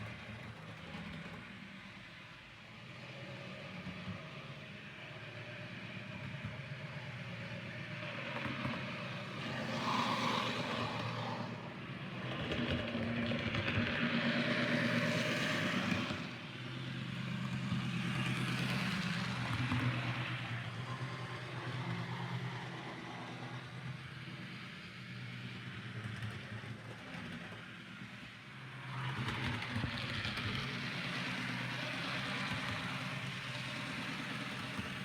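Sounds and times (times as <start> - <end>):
wheels rumbling on rails: 5.8 - 35.0.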